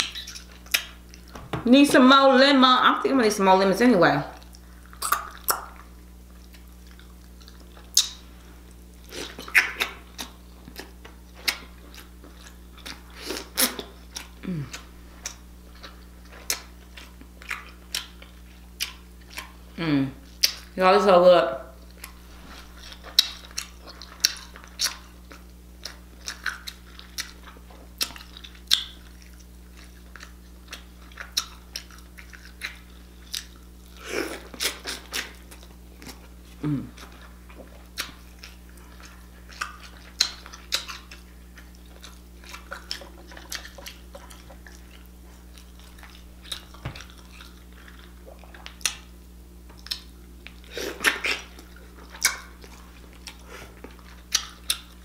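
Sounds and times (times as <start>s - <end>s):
person chewing crab: 4.4s - 20.8s, 21.8s - 55.0s.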